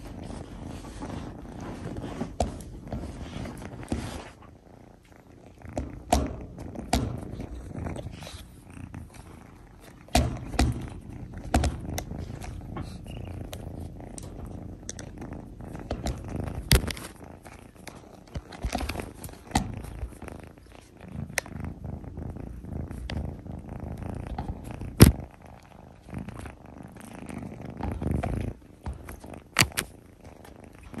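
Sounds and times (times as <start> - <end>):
kitten purring: 0.0 - 31.0.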